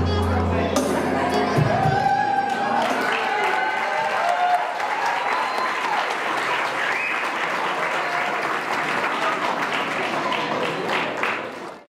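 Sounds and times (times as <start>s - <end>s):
crowd applauding: 1.6s - 11.9s.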